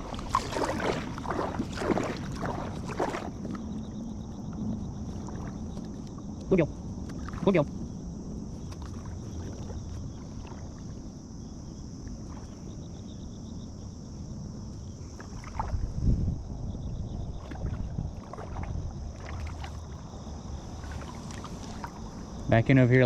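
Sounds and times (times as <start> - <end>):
water against kayak hull: 0.0 - 22.8.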